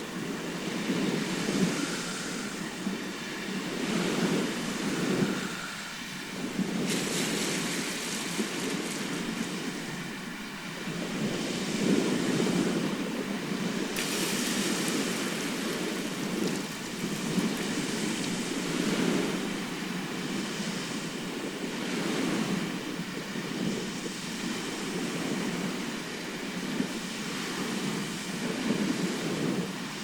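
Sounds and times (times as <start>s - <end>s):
waves breaking on shore: 0.0s - 30.0s.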